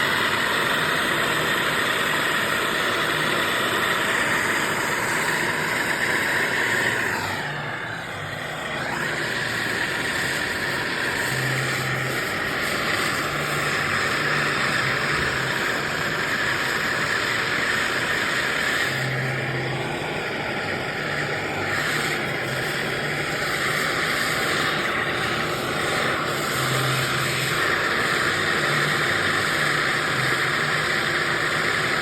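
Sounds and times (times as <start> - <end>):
steady hissing noise: 0.0 - 32.0.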